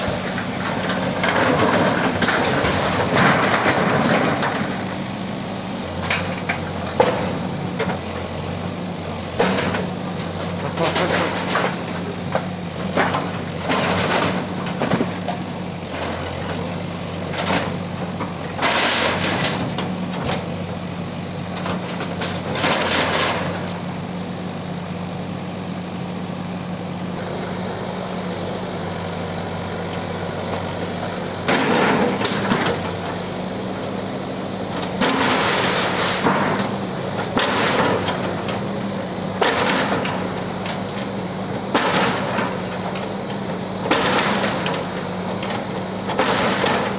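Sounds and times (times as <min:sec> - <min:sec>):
demolition crashing and scraping: 0:00.0 - 0:05.1, 0:05.9 - 0:24.0, 0:30.5 - 0:46.9
bulldozer diesel engine running: 0:00.0 - 0:46.9.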